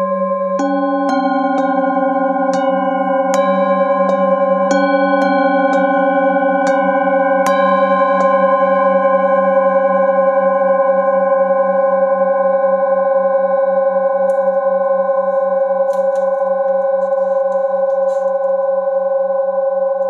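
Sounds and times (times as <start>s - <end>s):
singing bowl ringing: 0.0s - 20.0s.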